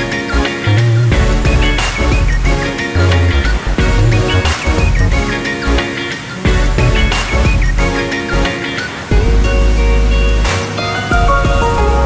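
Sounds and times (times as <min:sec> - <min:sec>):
band music with heavy bass: 0:00.0 - 0:12.0.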